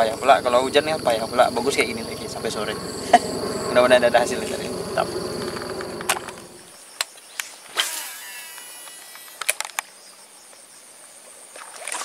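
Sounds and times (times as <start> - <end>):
insects droning: 0.0 - 11.6.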